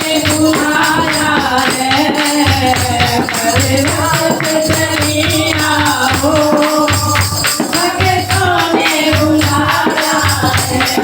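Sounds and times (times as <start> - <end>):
devotional music: 0.0 - 11.0
tambourine jingles: 0.0 - 11.0.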